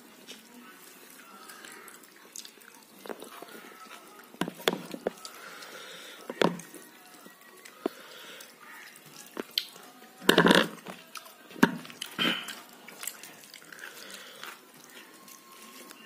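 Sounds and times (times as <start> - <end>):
wet eating sounds: 0.0 - 16.0.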